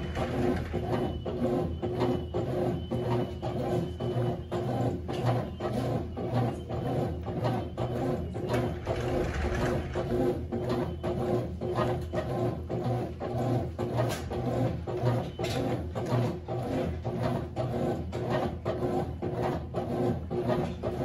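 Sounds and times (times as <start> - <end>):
washing machine motor humming: 0.0 - 21.0.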